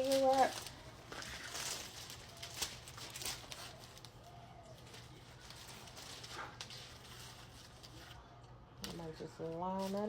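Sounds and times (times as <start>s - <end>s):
cellophane crinkling: 0.0s - 10.0s.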